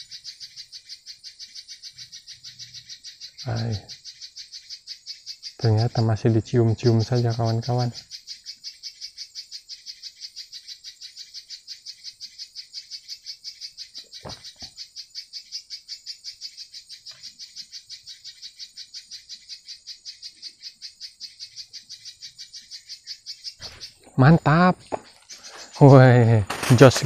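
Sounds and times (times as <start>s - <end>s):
small animal chirping: 0.0s - 27.0s.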